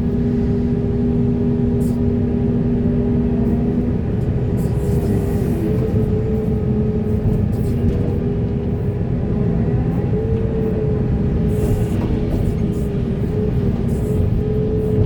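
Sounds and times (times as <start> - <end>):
diesel excavator engine rumbling: 0.0 - 15.0.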